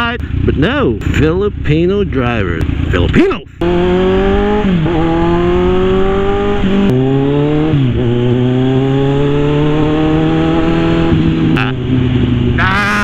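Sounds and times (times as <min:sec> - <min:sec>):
motorcycle engine accelerating: 0:00.0 - 0:13.0
wind and road noise: 0:00.0 - 0:13.0.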